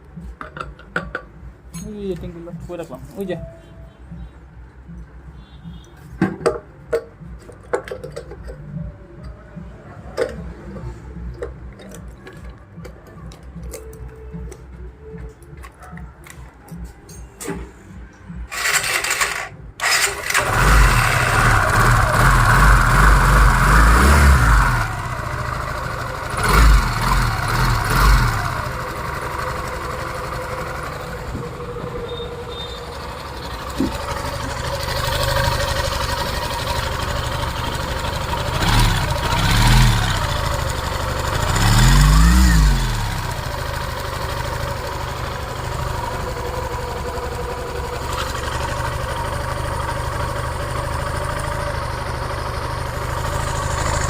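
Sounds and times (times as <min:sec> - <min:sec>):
motorcycle engine idling and revving: 0:04.1 - 0:54.0.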